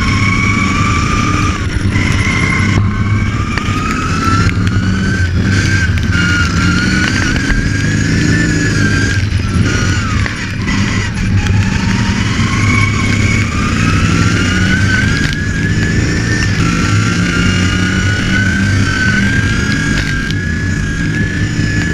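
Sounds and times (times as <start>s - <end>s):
lawn mower engine running: 0.0s - 21.9s.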